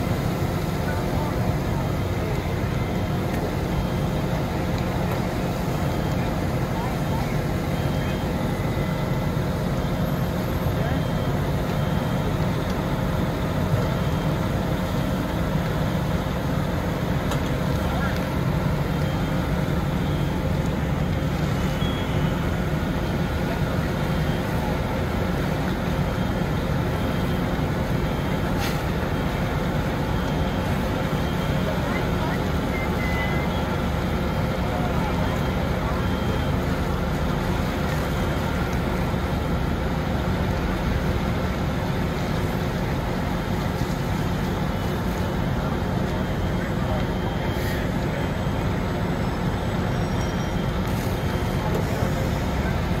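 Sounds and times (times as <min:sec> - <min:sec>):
fire truck engine rumbling: 0:00.0 - 0:53.0.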